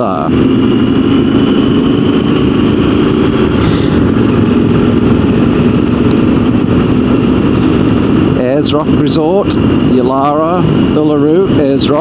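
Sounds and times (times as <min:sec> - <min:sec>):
motorcycle engine drone: 0:00.0 - 0:12.0
wind noise: 0:00.2 - 0:12.0.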